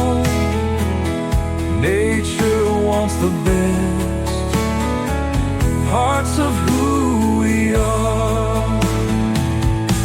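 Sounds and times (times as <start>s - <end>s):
instrumental music with sliding melody: 0.0s - 10.0s.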